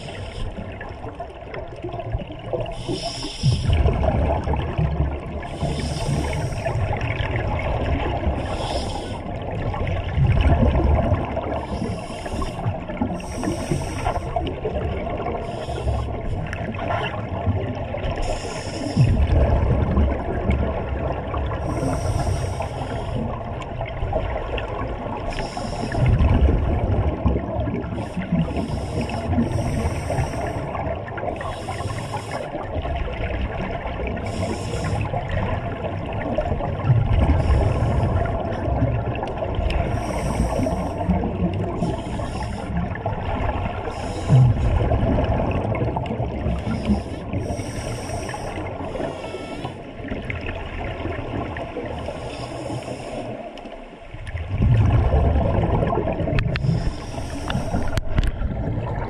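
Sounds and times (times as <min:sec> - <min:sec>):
bubbling from exhaled air: 0:00.0 - 0:49.2, 0:54.2 - 0:59.0.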